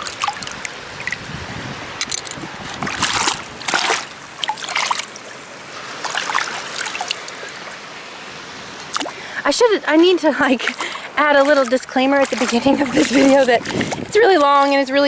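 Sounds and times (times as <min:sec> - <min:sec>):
person wading through water: 0:00.0 - 0:15.0.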